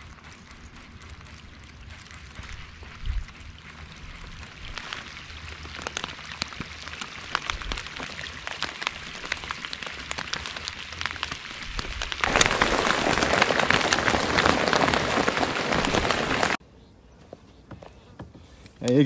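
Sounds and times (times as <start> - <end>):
rain falling on water: 0.0 - 16.6.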